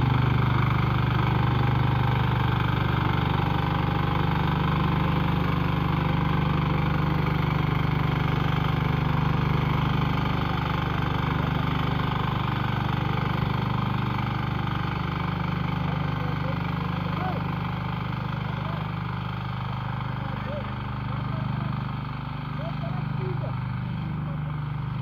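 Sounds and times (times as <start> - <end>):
tiller engine running: 0.0 - 25.0.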